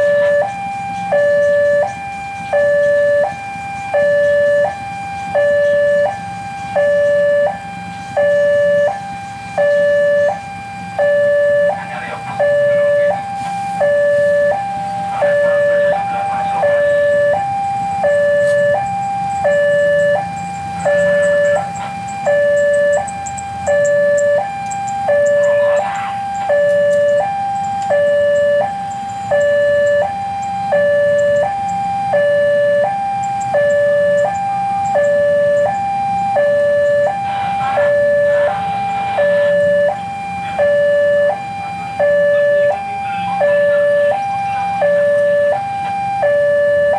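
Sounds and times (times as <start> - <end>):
low steady rumble: 0.0 - 46.9
two-tone level crossing alarm: 0.0 - 46.9.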